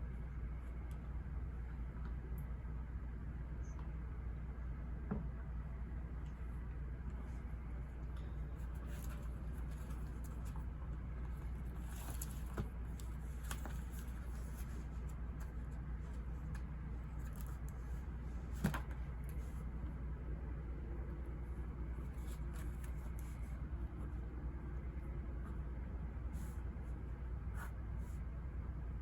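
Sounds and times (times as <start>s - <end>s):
low ambient noise: 0.0s - 29.0s.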